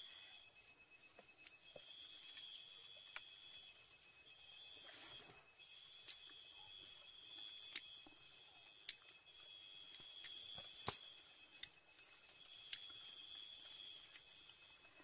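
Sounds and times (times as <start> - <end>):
pulsing insect trill: 0.0 - 15.0.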